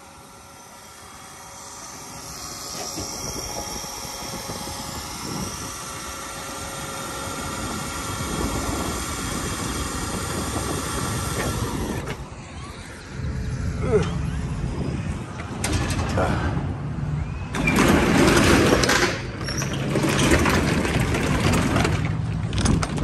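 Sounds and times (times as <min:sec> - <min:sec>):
truck motor running: 0:00.0 - 0:23.0.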